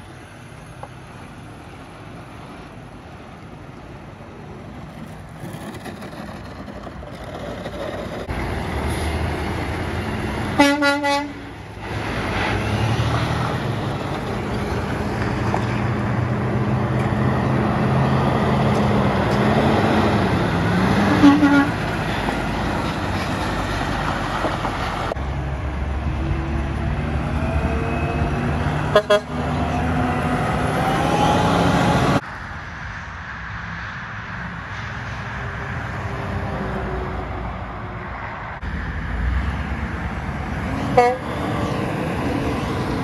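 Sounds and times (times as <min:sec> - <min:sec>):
heavy diesel trucks driving past: 0:00.0 - 0:43.0.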